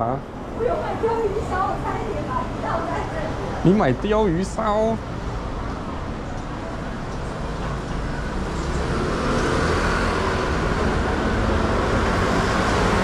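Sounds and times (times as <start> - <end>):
hum of passing vehicles: 0.0 - 13.0.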